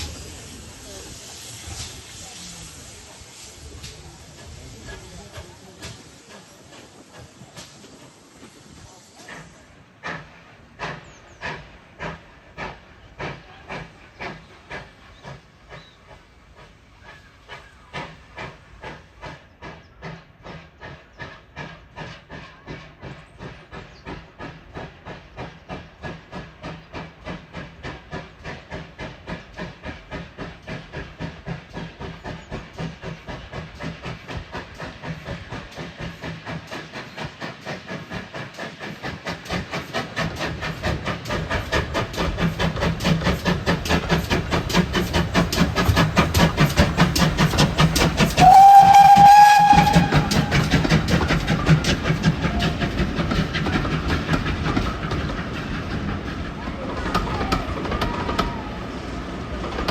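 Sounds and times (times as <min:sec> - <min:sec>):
steam hissing: 0:00.0 - 0:59.9
steam locomotive chuffing: 0:00.0 - 0:59.9.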